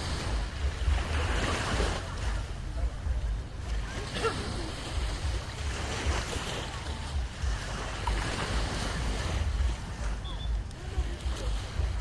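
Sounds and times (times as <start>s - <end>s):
surf washing on a beach: 0.0s - 12.0s
wind gusting on microphone: 0.0s - 12.0s.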